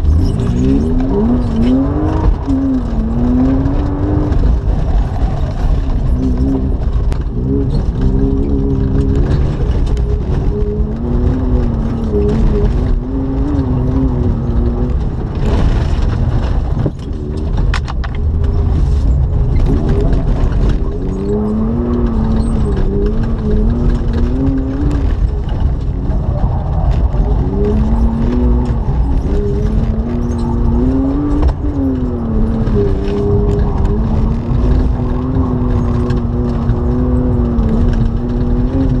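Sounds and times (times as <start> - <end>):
car engine revving: 0.0 - 39.0
gravel noise under tyres: 0.0 - 39.0.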